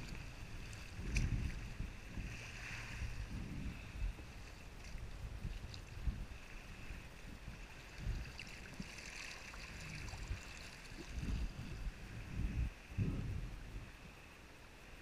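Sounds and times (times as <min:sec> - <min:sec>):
wind gusts on microphone: 0:00.0 - 0:15.0.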